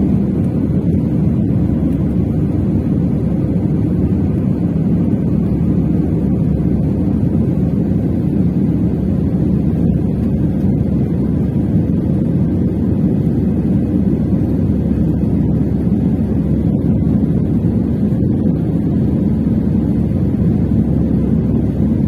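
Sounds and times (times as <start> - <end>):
airliner cabin engine roar: 0.0 - 22.0.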